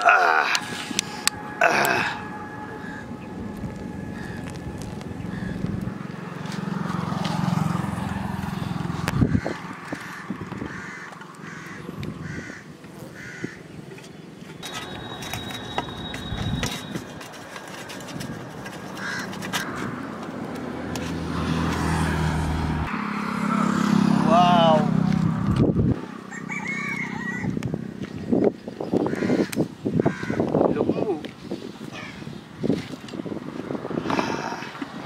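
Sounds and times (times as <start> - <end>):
outdoor ambience: 0.0 - 35.0.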